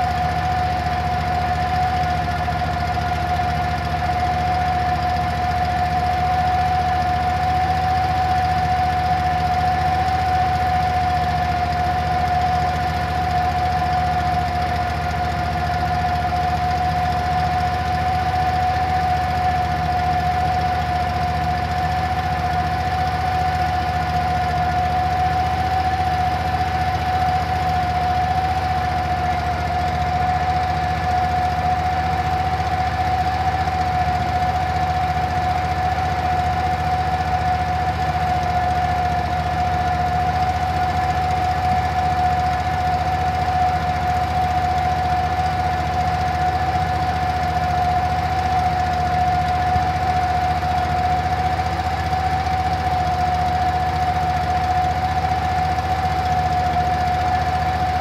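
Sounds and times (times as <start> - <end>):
motor humming with a whine: 0.0 - 58.0.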